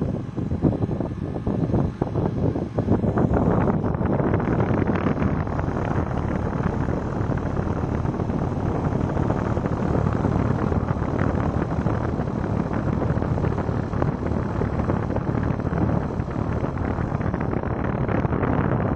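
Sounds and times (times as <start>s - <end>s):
air conditioner running: 0.0s - 18.9s.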